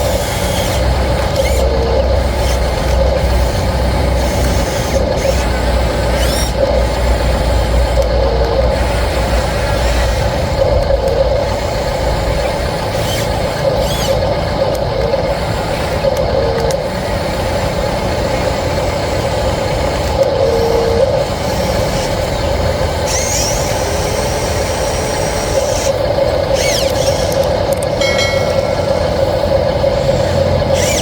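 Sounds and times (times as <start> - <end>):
high motor whines: 0.0 - 31.0
machine drone with low rumble: 0.0 - 31.0.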